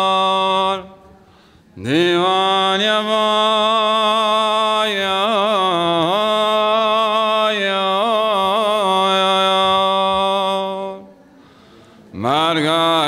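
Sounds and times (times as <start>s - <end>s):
man chanting a hymn: 0.0s - 1.1s, 1.8s - 11.2s, 12.1s - 13.0s.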